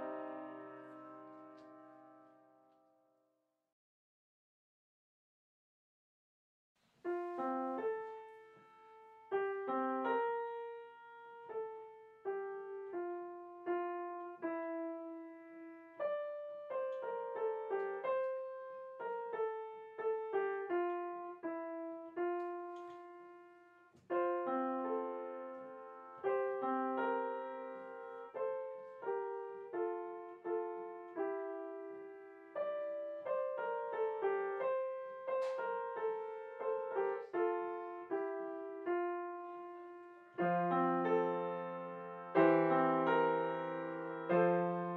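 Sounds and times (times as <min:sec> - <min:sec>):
solo piano music: 0:00.0 - 0:02.9, 0:07.0 - 0:44.9.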